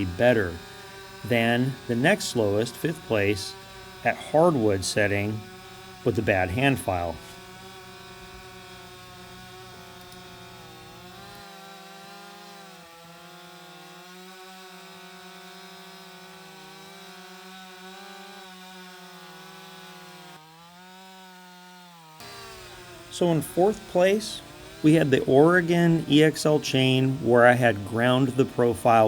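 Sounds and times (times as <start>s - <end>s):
chainsaw cutting a log: 0.0s - 29.0s.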